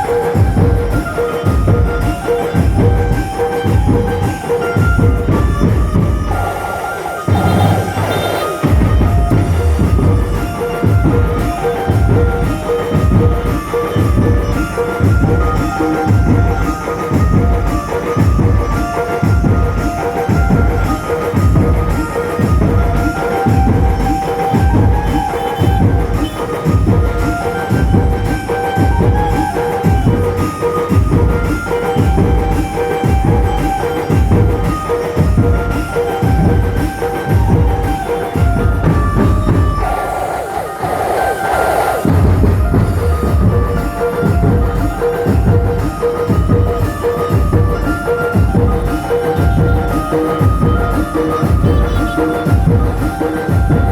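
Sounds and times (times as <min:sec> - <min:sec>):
heavy bass drum beat: 0:00.0 - 0:06.6, 0:07.3 - 0:40.1, 0:40.9 - 0:53.9
band playing loudly: 0:00.0 - 0:53.9
held melody line: 0:00.0 - 0:53.9.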